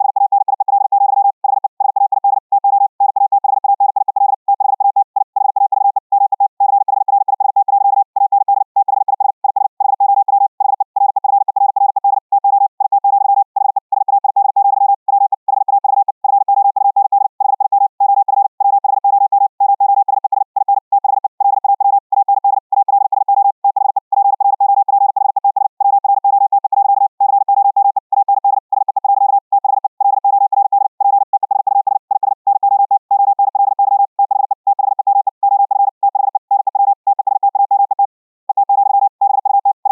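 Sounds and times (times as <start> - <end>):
fast morse code tone: 0.0 - 39.9.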